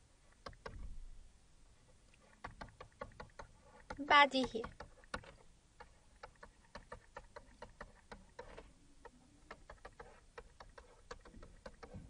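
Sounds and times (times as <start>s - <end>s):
stylus tapping on graphics tablet: 0.4s - 0.9s, 2.4s - 12.0s.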